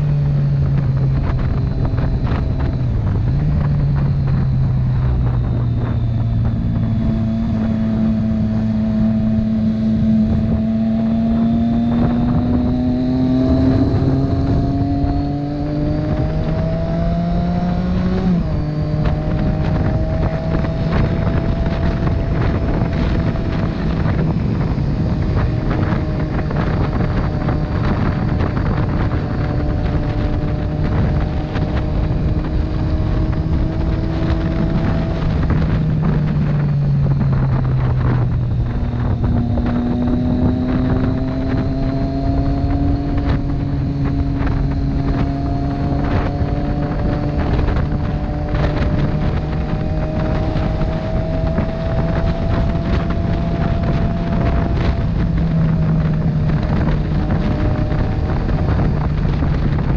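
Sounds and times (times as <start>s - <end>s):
motorcycle engine accelerating: 0.0s - 59.9s
wind buffeting microphone: 0.0s - 59.9s.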